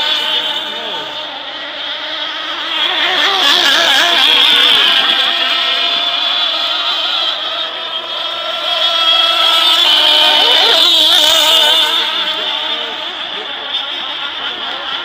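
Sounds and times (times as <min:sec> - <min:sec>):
rc boat engines whining: 0:00.0 - 0:15.0.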